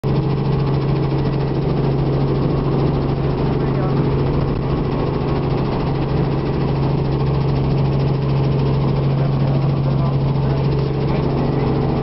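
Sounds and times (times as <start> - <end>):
helicopter drone: 0.0 - 12.0.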